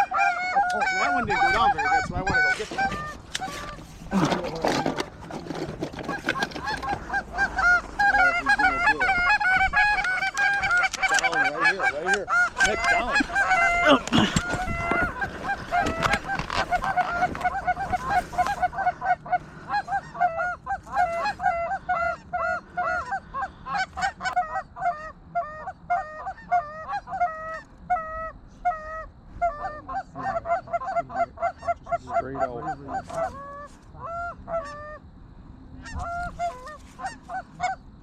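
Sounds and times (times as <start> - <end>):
geese honking: 0.0 - 35.0, 35.8 - 38.0.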